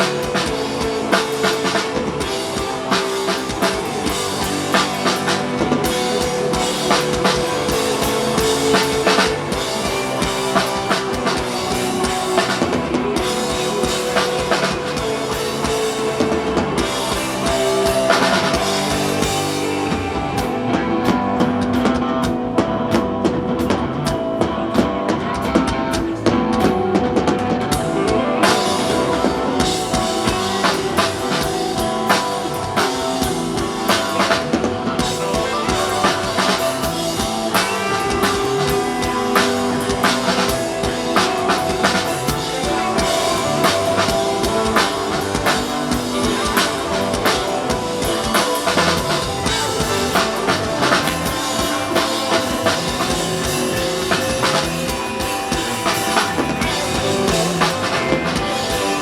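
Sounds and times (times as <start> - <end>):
drum kit beat: 0.0 - 59.0
electric guitar: 0.0 - 59.0.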